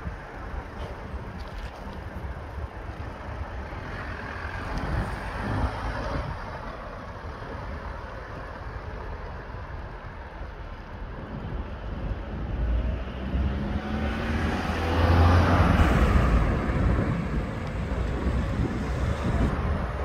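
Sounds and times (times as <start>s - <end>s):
vehicle travelling along street: 0.0s - 20.0s.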